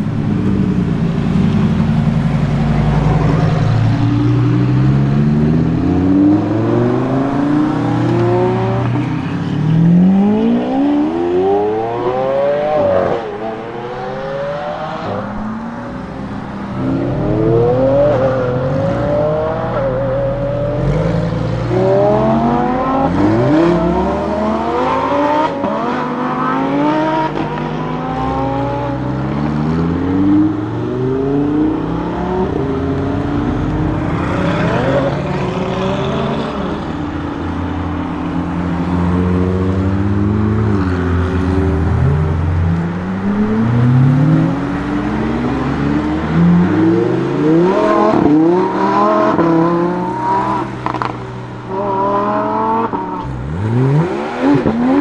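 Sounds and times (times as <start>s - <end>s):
second car engine passing: 0.0s - 55.0s
sports car engine accelerating: 0.0s - 55.0s.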